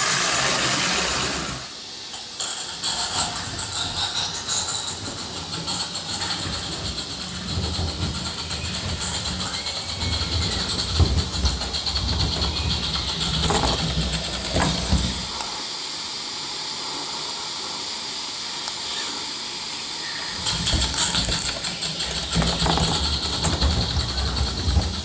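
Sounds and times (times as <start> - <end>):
model locomotive wheels rumbling: 0.0 - 15.6, 20.4 - 25.0
steam hissing: 0.0 - 25.0.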